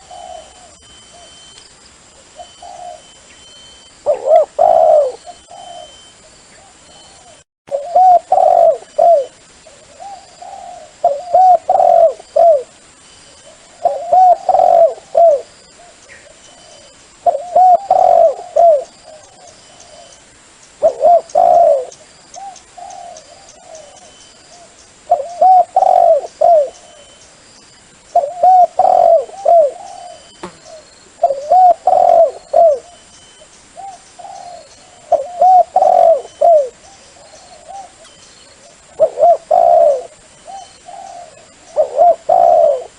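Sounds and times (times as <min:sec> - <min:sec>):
dove cooing: 0:00.0 - 0:01.4, 0:02.4 - 0:03.2, 0:04.0 - 0:12.8, 0:13.4 - 0:20.2, 0:20.8 - 0:27.2, 0:28.2 - 0:33.0, 0:33.8 - 0:42.9.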